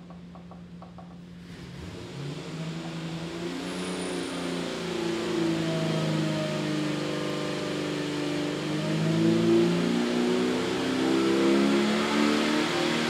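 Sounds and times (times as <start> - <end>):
engine revving under load: 1.4 - 13.0.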